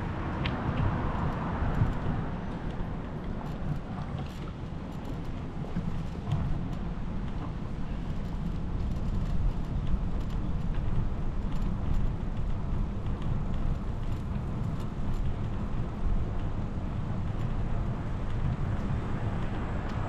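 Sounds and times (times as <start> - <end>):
bicycle tyre noise on asphalt: 0.0 - 20.0
wind buffeting microphone: 0.0 - 20.0.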